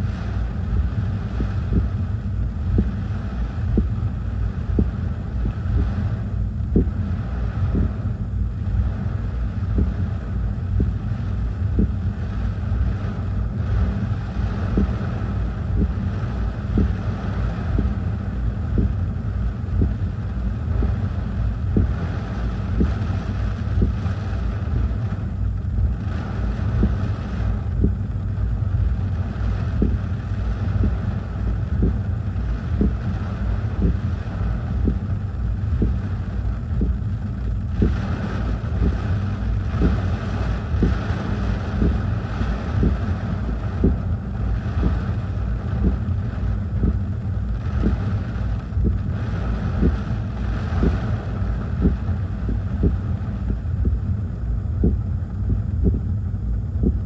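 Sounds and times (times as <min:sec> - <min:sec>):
wind-driven rain hiss: 0:00.0 - 0:57.0.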